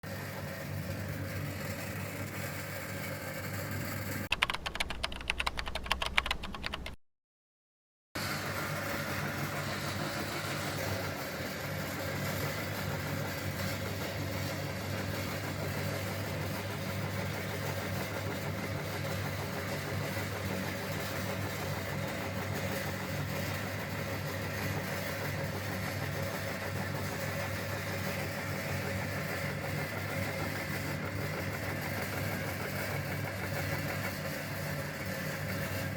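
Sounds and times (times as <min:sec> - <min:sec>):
meat grinder motor humming: 0:00.1 - 0:04.2, 0:08.2 - 0:35.9.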